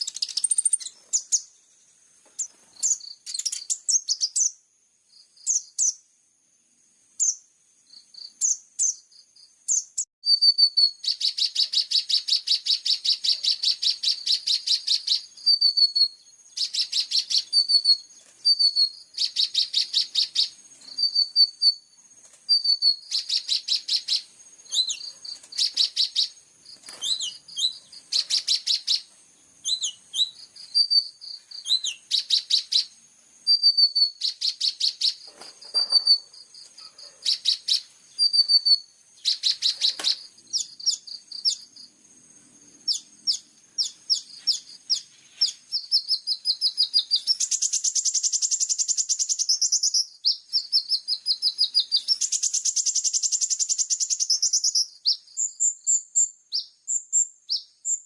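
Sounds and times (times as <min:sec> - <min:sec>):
bird song with chirps and trills: 0:00.0 - 0:58.0.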